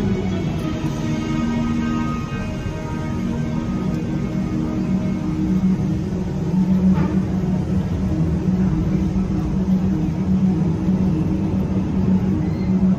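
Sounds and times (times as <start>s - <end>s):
pulsing hum: 0.0s - 12.9s
train rolling along track: 0.0s - 12.9s.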